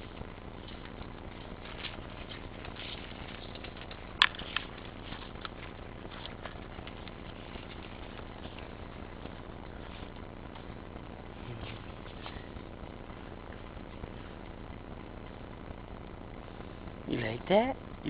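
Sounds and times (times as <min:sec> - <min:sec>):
puppies crunching kibble: 0:00.0 - 0:16.9.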